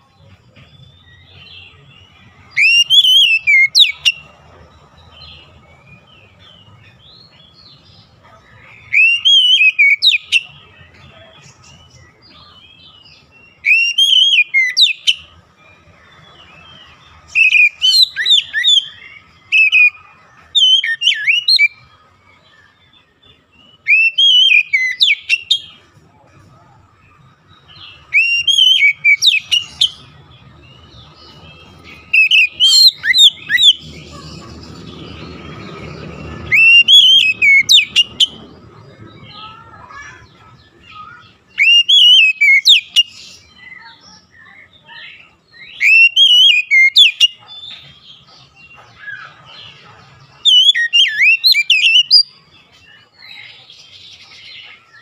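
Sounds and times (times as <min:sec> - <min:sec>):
bird singing whistled notes: 0:00.0 - 0:25.9, 0:27.1 - 0:55.0.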